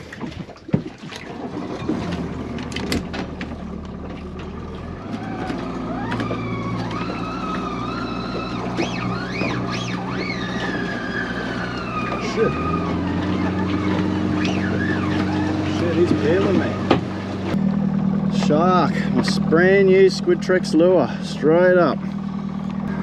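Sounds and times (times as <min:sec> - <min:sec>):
boat motor running: 0:00.0 - 0:23.0
wavering whining tone: 0:03.9 - 0:23.0.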